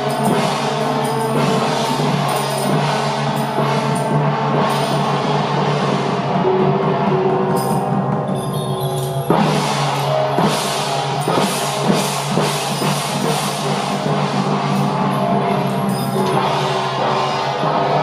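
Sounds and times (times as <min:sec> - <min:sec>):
snare and hand drums: 0:00.0 - 0:17.1.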